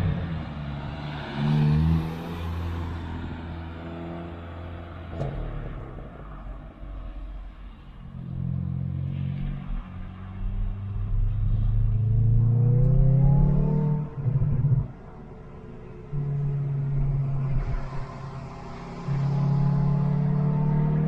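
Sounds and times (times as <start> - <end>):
car engine and exhaust: 0.0 - 21.0.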